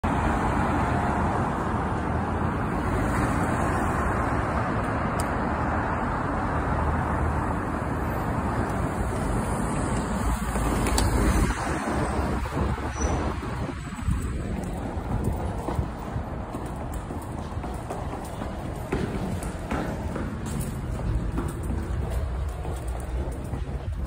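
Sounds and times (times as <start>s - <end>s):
cars and trucks passing: 0.0s - 24.0s.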